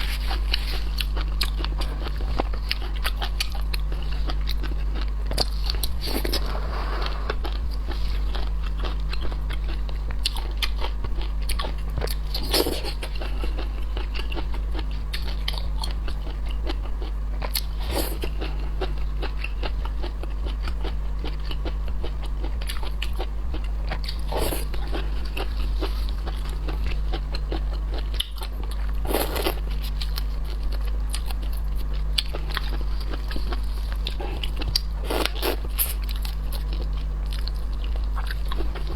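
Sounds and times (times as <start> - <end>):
chewing and crunching shrimp: 0.0 - 38.9
steady low hum: 0.0 - 38.9.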